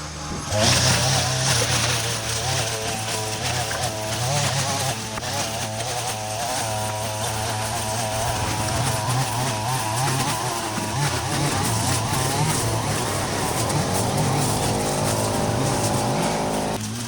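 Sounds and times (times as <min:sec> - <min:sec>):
brush cutter engine cutting grass: 0:00.0 - 0:17.0.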